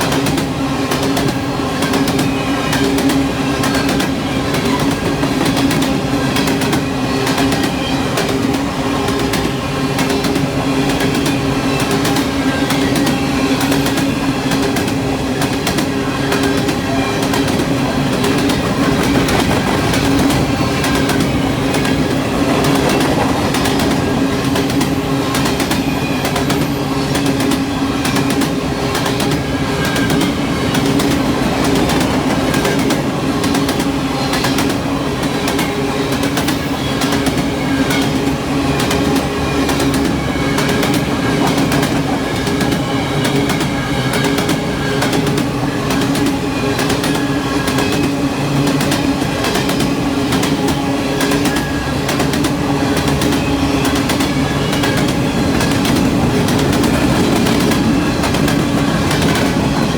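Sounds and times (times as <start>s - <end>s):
freight train cars rumbling past: 0.0s - 59.9s
wheels clattering over rail joints: 0.0s - 59.9s.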